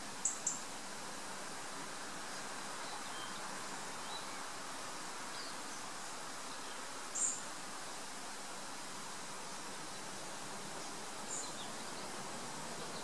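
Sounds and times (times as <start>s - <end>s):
outdoor ambient hiss: 0.0s - 13.0s.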